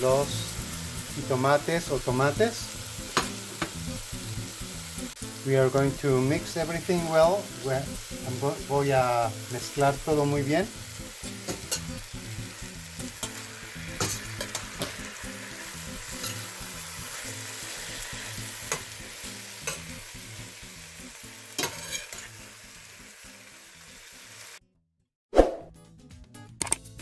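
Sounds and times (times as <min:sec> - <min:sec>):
vegetables sizzling in oil: 0:00.0 - 0:24.6.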